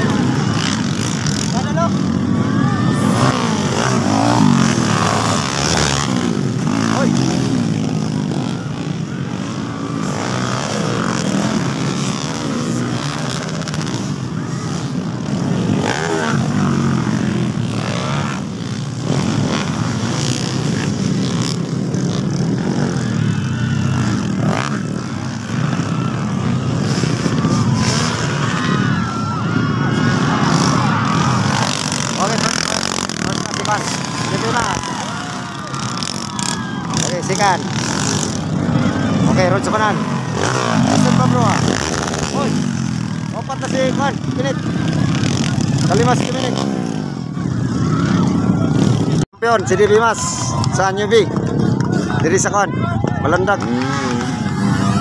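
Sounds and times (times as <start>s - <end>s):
crowd chatter: 0.0s - 55.0s
dirt bike engines revving: 0.0s - 55.0s.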